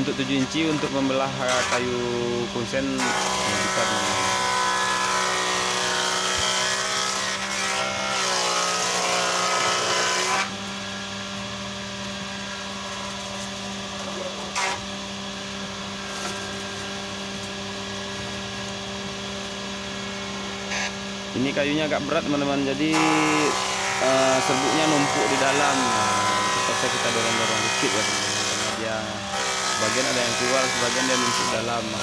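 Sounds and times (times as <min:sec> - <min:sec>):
circular saw cutting wood: 0:00.0 - 0:32.0
machine motor hum: 0:00.0 - 0:32.0.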